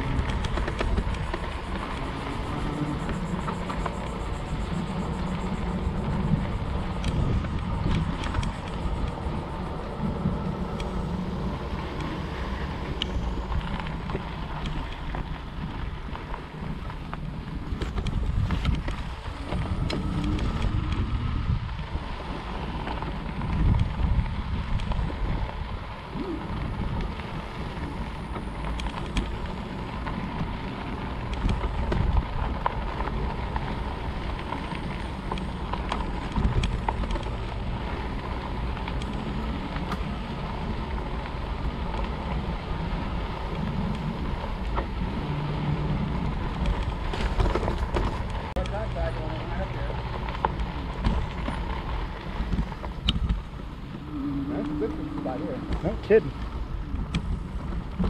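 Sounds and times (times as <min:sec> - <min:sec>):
bike tyre rumble on dirt: 0:00.0 - 0:58.0
faint electric motor whine: 0:00.0 - 0:58.0
wind buffeting microphone: 0:00.0 - 0:58.0.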